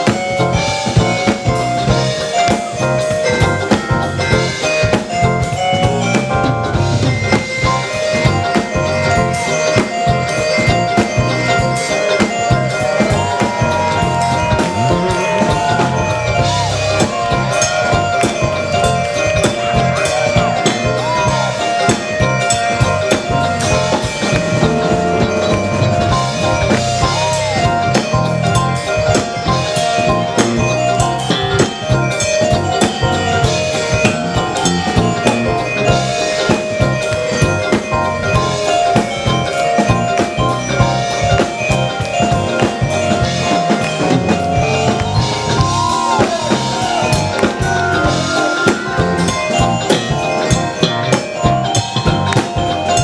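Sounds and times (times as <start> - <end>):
drum kit: 0.0 - 53.0
electric bass guitar: 0.0 - 53.0
jazz-funk band playing: 0.0 - 53.0
mallet keyboard notes: 0.0 - 53.0.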